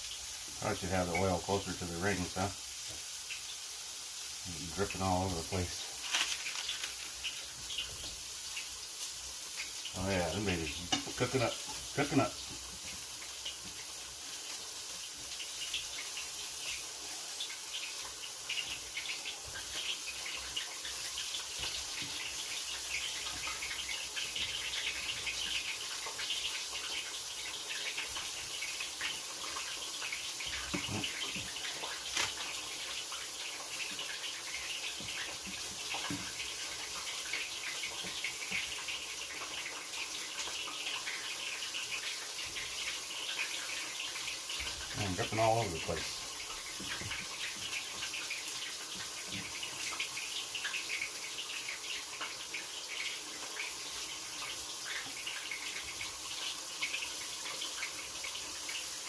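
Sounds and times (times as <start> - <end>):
deep-frying sizzle with pops: 0.0 - 59.0.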